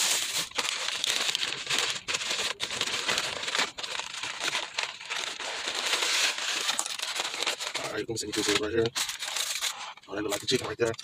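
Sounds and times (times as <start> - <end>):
paper wrapping crinkling: 0.0 - 11.0.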